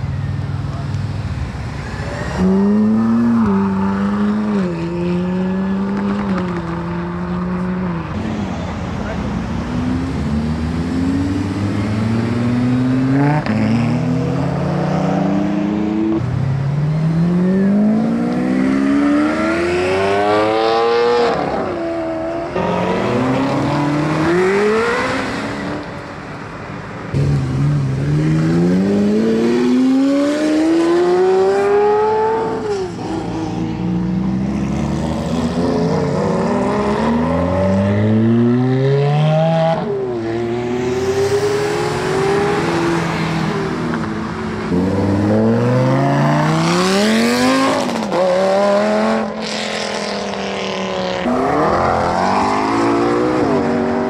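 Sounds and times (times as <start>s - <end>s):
sports car engines accelerating: 0.0s - 54.0s.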